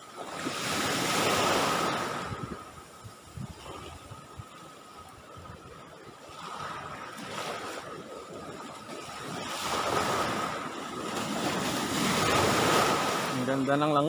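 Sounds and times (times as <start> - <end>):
waves washing onto shore: 0.0 - 14.0
wind on microphone: 0.3 - 13.8.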